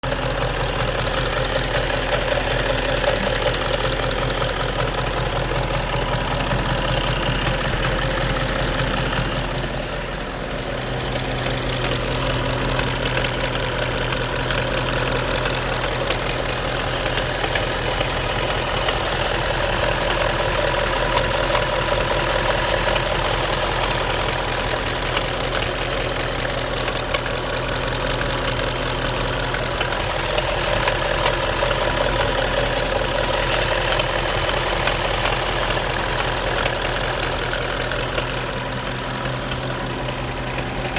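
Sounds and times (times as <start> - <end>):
diesel engine running: 0.0 - 40.9
engine knocking: 0.0 - 40.9.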